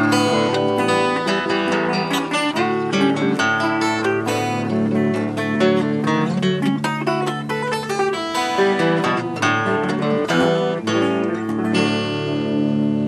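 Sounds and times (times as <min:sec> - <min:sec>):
acoustic and electric guitar duet: 0:00.0 - 0:13.0.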